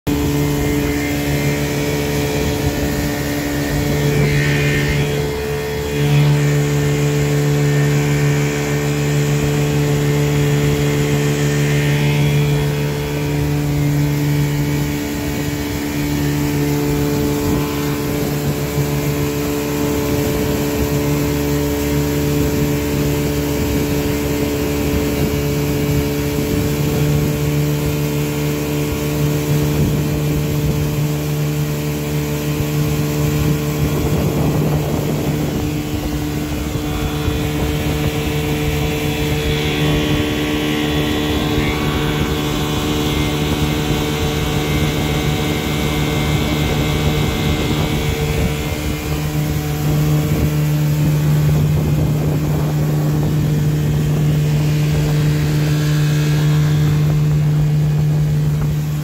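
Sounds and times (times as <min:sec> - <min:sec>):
outboard motor running: 0:00.0 - 0:59.0.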